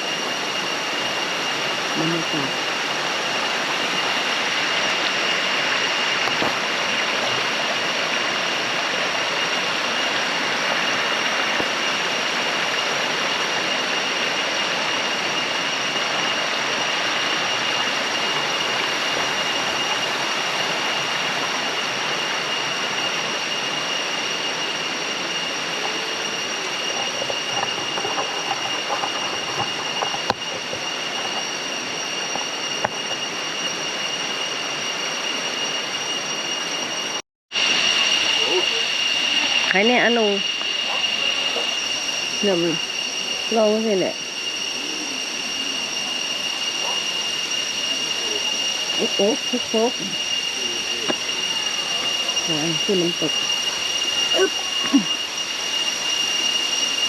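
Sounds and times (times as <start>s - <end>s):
thin high tone: 0.0s - 57.0s.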